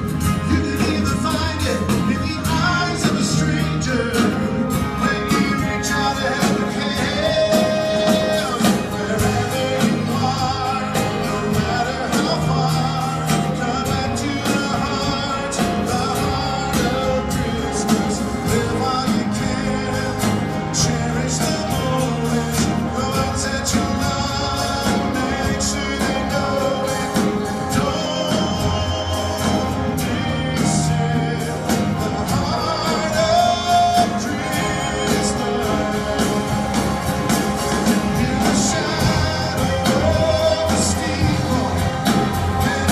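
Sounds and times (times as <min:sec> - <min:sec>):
live band playing pop ballad: 0:00.0 - 0:42.9
person singing: 0:00.0 - 0:42.9.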